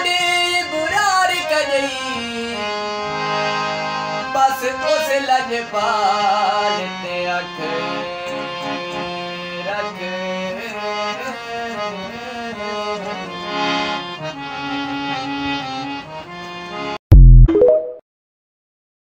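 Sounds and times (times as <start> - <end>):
harmonium melody: 0.0 - 17.0.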